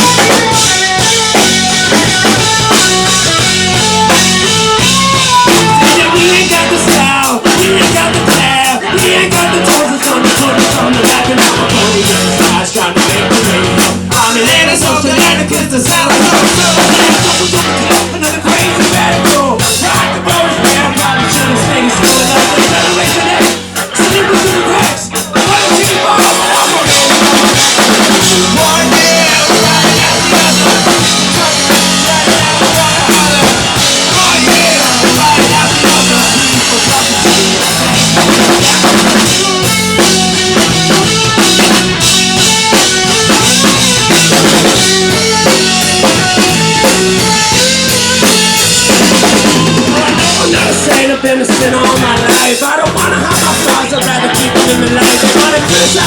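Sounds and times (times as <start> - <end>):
drum kit kick and snare: 0.0 - 56.0
live rock band playing: 0.0 - 56.0.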